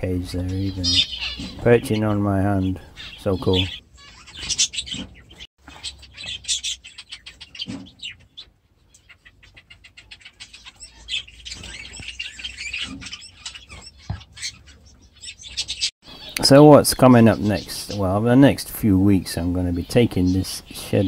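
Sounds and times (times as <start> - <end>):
finches chirping: 0.1 - 21.0.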